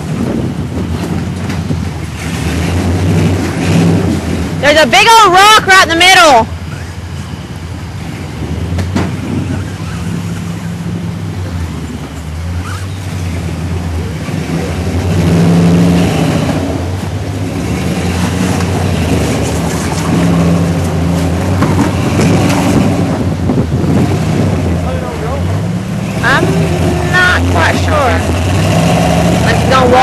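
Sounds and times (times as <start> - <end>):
truck engine revving under load: 0.0 - 5.2, 6.5 - 30.0.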